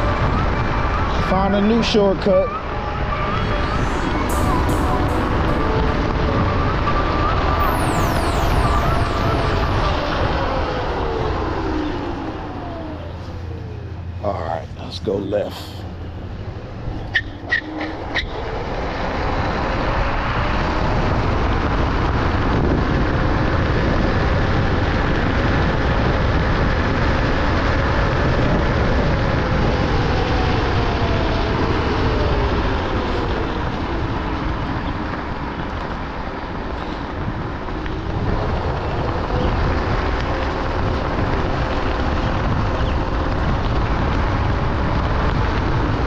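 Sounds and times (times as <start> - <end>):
wind and road noise: 0.0 - 46.0.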